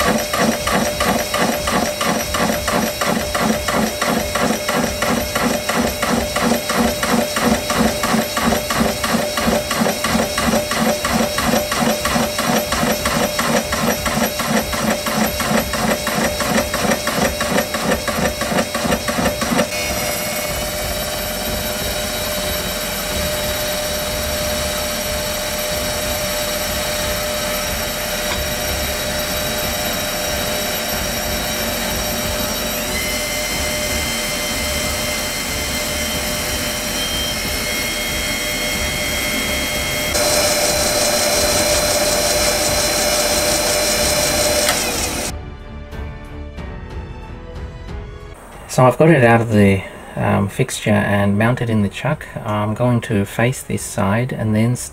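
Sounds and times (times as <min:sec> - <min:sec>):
metal cutting noise: 0:00.0 - 0:45.3
metal lathe whining: 0:00.0 - 0:45.3.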